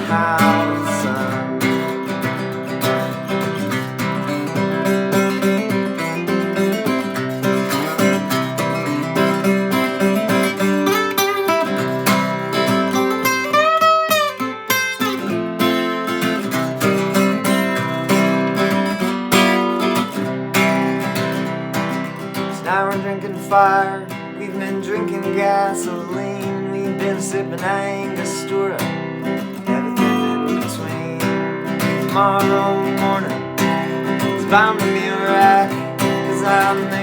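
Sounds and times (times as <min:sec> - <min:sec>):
acoustic guitar playing: 0:00.0 - 0:37.0.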